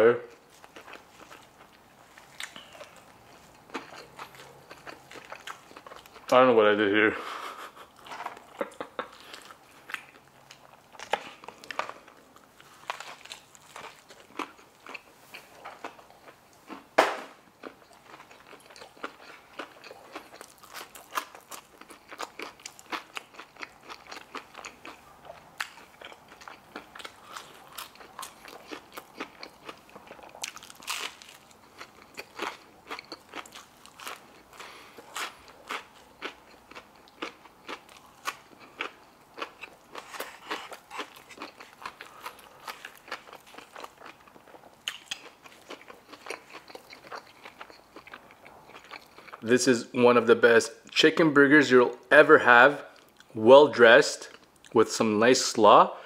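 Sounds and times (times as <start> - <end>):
crunchy chewing of fried food: 0.3 - 6.4, 7.2 - 49.6, 52.8 - 53.4, 54.2 - 54.8.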